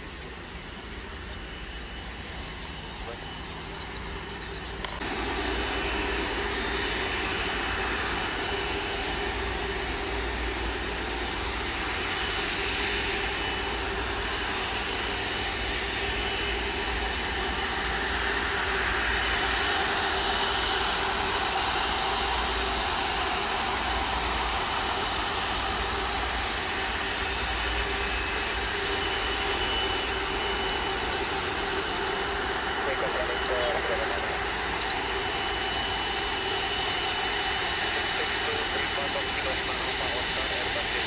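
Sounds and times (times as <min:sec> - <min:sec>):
jet engines whining and rumbling: 0:00.0 - 0:41.0.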